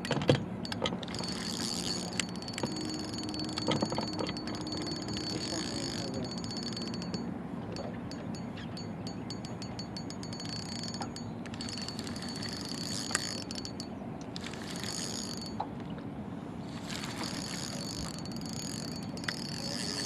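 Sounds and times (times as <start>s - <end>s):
fishing reel ticking and whirring: 0.0s - 15.6s, 16.7s - 20.0s.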